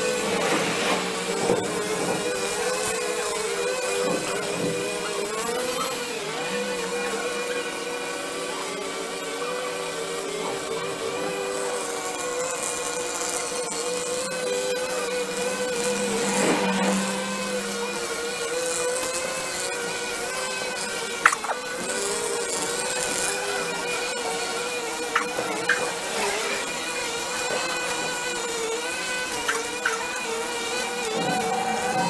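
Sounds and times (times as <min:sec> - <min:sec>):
brush cutters whining: 0:00.0 - 0:32.0.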